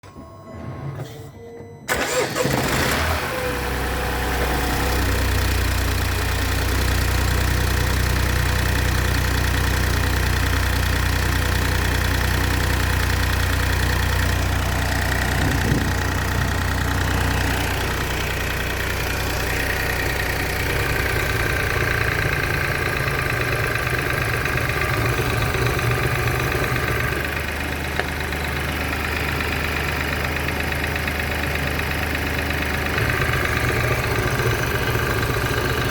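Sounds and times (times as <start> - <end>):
car engine starting and idling: 0.2 - 35.9
engine ticking: 1.9 - 35.9.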